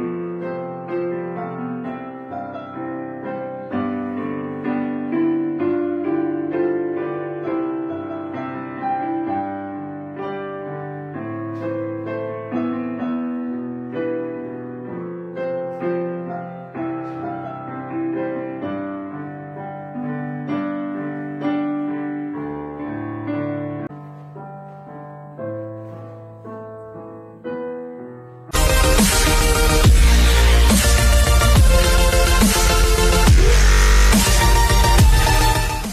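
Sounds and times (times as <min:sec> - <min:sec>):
slow gentle piano piece: 0:00.0 - 0:35.9.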